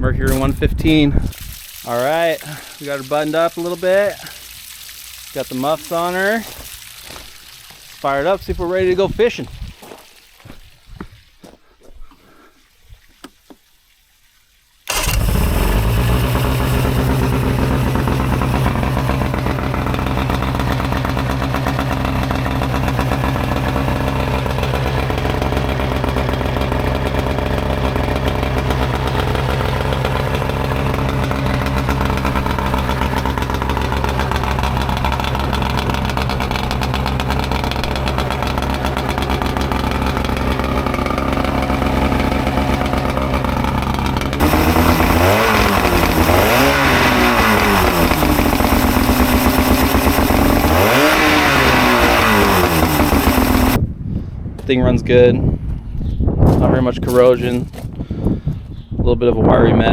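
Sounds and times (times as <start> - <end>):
outboard motor starting and running: 0.0 - 9.3, 14.8 - 53.8.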